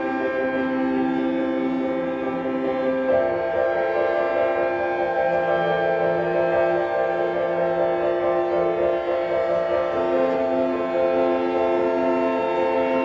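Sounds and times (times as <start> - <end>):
ensemble holding sustained chord: 0.0 - 13.0.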